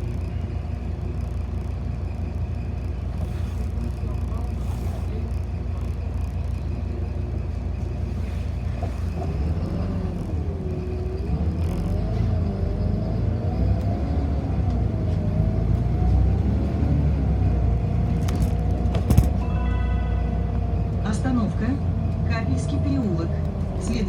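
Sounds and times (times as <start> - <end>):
bus rumble from inside: 0.0 - 24.0.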